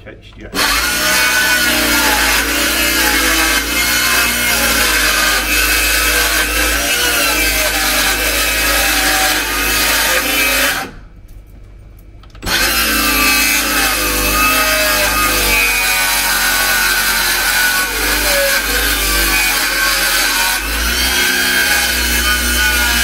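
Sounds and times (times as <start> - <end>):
circular saw cutting wood: 0.5 - 11.0, 12.4 - 23.0.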